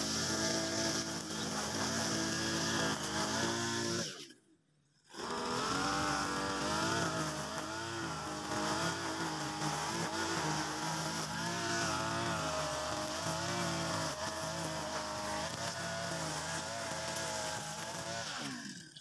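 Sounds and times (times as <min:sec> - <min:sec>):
brush cutter engine running: 0:00.0 - 0:04.1, 0:05.1 - 0:19.0.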